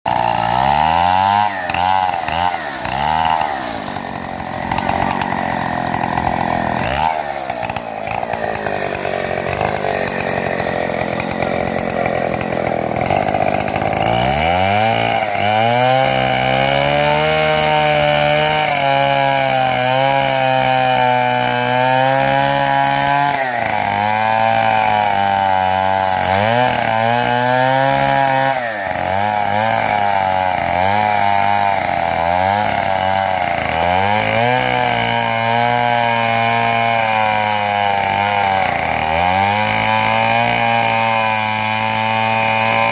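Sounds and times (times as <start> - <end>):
chainsaw cutting log: 0.0 - 42.9.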